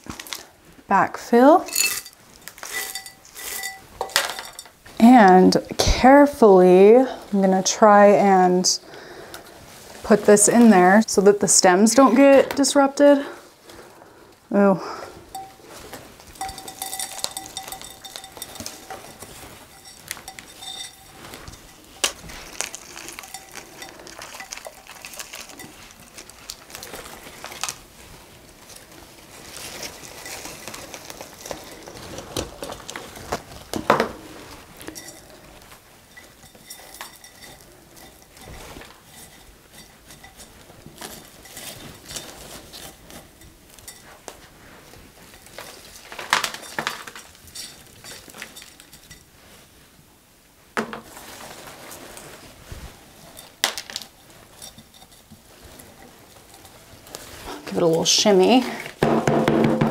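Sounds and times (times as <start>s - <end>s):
potting mix rustling and scraping: 0.0s - 59.9s.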